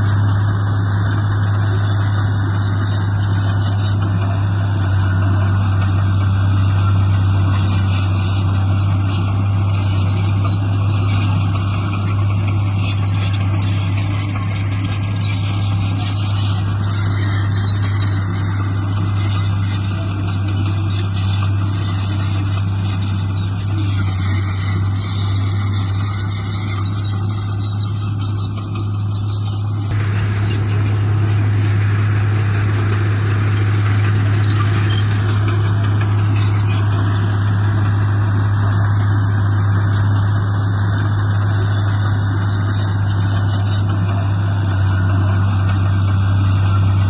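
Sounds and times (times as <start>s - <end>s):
heavy diesel engine droning: 0.0s - 47.0s.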